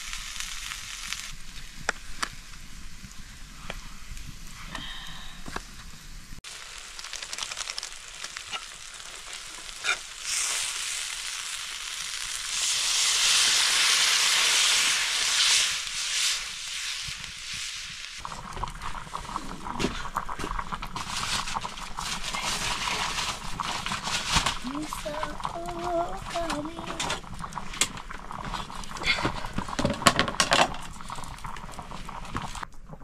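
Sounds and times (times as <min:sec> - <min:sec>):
food frying in hot oil: 0:00.0 - 0:05.4, 0:06.0 - 0:32.7.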